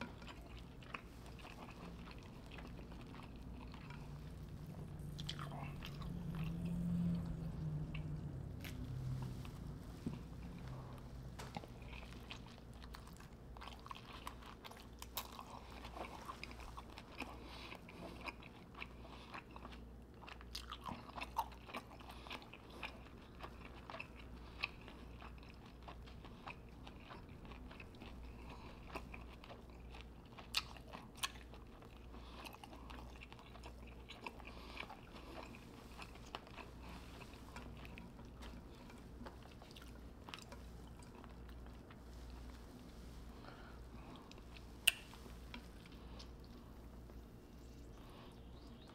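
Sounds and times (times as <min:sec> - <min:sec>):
chewing and biting food: 0:00.0 - 0:48.9
steady low hum: 0:00.0 - 0:48.9.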